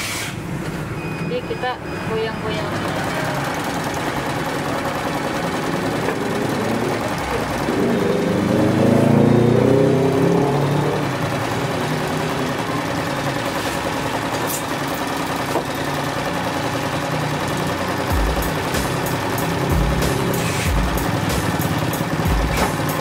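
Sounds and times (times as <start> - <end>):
electric sewing machine running: 2.6 - 23.0.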